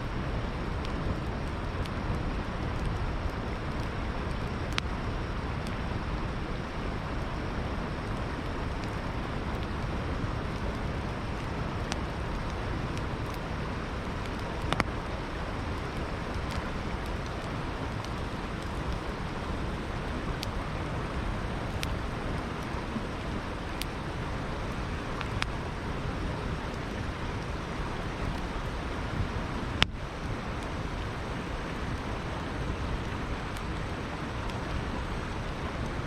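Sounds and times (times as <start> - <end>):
river water flowing: 0.0 - 36.0
campfire crackling and popping: 0.2 - 36.0.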